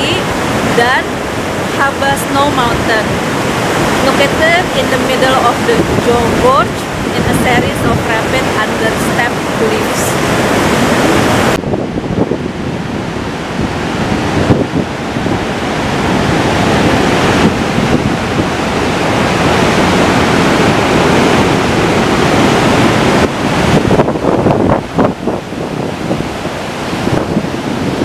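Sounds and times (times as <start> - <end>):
river rapids roaring: 0.0 - 28.0
wind buffeting microphone: 0.0 - 28.0.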